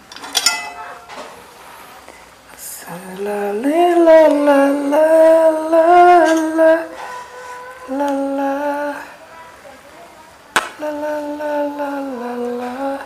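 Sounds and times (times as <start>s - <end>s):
person singing slow melody: 2.5s - 13.0s.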